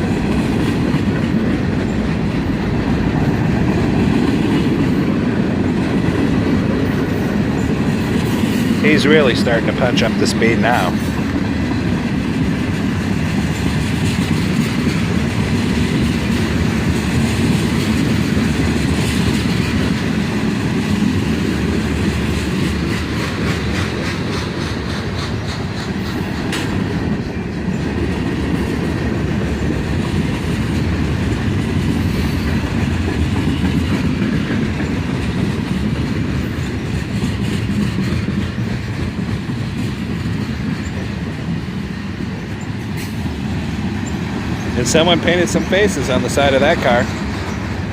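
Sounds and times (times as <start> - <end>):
wheels clacking over rail joints: 0.0 - 10.1, 10.7 - 47.9
freight train wheels rumbling: 0.0 - 47.9.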